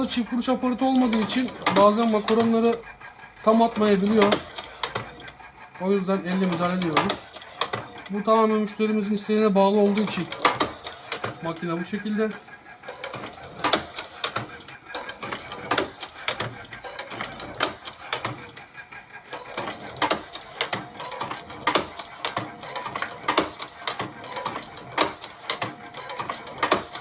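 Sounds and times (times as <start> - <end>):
steady motor hum: 0.0 - 27.0
sharp mechanical clacks: 0.7 - 8.2, 9.8 - 27.0.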